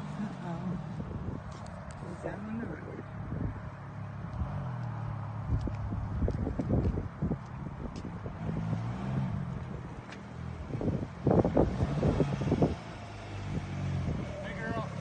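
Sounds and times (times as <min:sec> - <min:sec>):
three-wheeler engine running: 0:00.0 - 0:15.0
wind buffeting microphone: 0:00.4 - 0:15.0.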